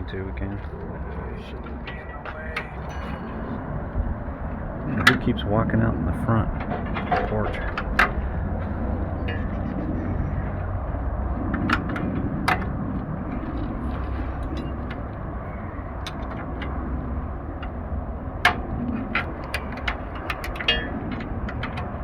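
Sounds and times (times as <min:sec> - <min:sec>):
low hum: 0:00.0 - 0:22.0
hand tools clicking on bolts: 0:02.6 - 0:05.4, 0:06.6 - 0:22.0.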